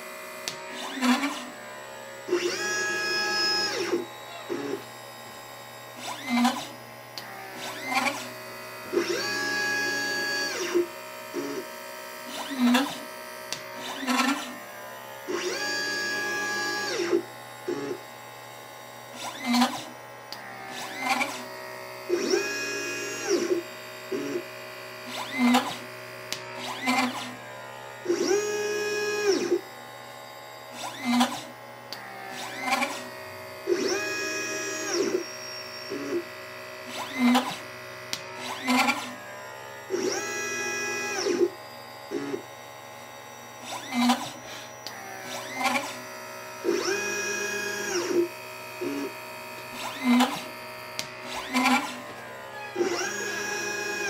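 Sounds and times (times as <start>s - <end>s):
stepper motors whining: 0.0s - 18.2s, 19.1s - 54.0s.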